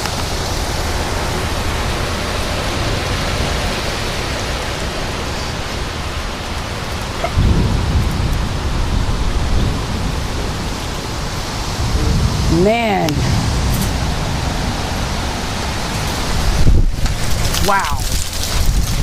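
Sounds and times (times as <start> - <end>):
deep thunder rumble: 0.0 - 19.0
heavy rain and wind: 0.0 - 19.0.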